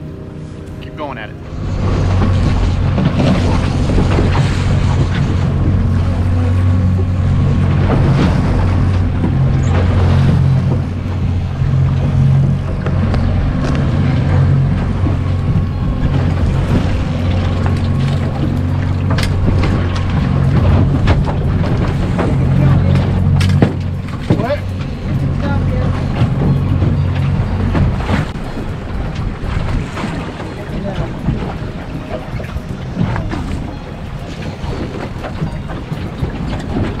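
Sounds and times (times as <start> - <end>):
boat motor running: 0.0 - 37.0
water noise: 0.0 - 37.0
wind: 0.0 - 37.0.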